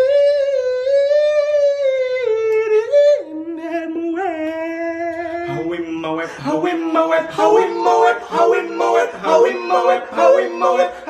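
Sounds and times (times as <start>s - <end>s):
person singing wordless notes: 0.0s - 11.0s.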